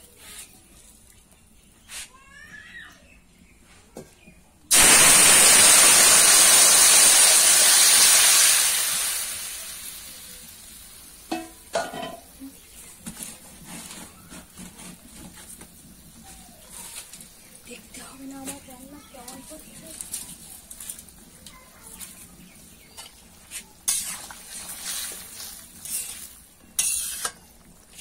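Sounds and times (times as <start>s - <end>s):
curry bubbling: 4.7s - 28.0s
curry sizzling in a hot wok: 4.7s - 28.0s.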